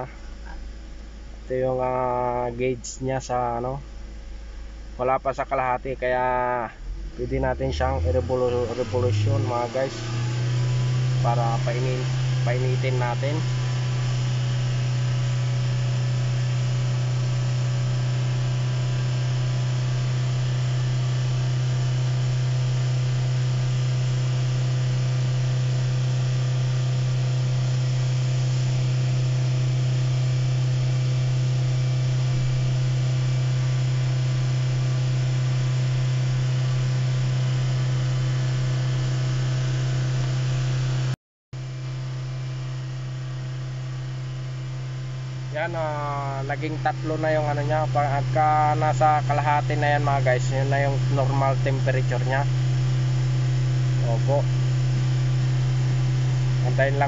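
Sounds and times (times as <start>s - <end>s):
car engine fast idle drone: 3.2s - 57.0s.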